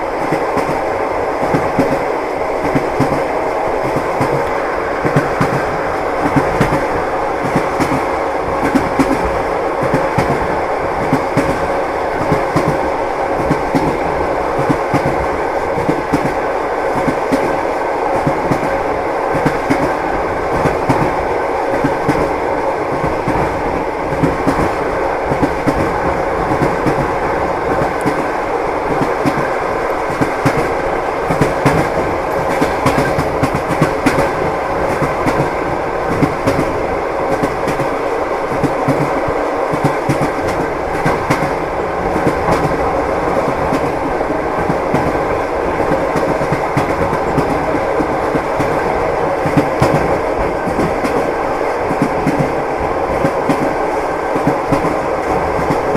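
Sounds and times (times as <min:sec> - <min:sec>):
moving train carriage rumble: 0:00.0 - 0:55.9
train wheels clacking over rail joints: 0:00.2 - 0:17.6, 0:18.2 - 0:55.9.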